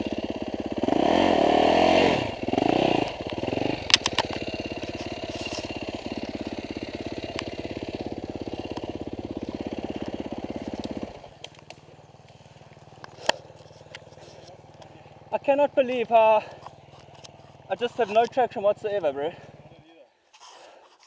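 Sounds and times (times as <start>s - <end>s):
dirt bike engine running: 0.0s - 19.9s.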